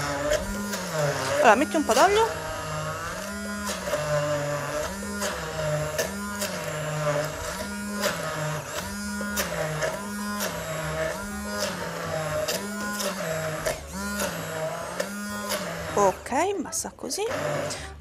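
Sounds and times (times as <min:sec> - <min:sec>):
immersion blender motor hum: 0:00.0 - 0:18.0.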